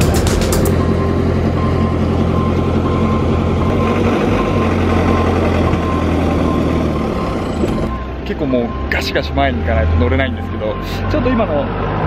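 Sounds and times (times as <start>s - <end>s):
minibus engine idling: 0.0s - 11.9s.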